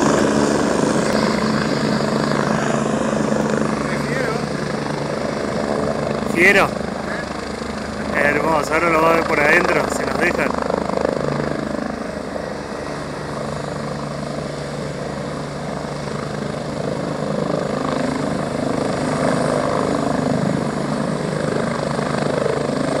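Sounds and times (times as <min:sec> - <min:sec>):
helicopter rotor beating: 0:00.0 - 0:23.0
helicopter turbine noise: 0:00.0 - 0:23.0.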